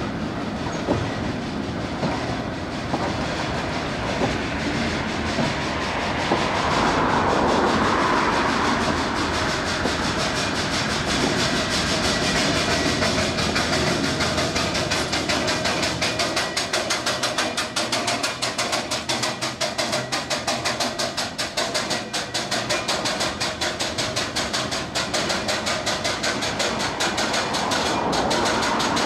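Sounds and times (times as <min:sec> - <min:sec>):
train wheels clattering on track: 0:00.0 - 0:29.0.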